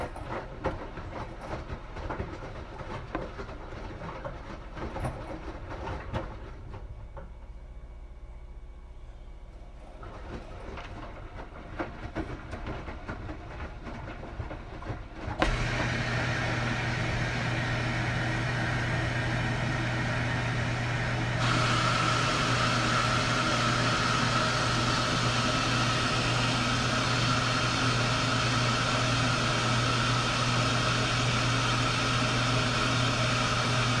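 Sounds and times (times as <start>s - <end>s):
washing machine motor humming: 2.0s - 34.0s.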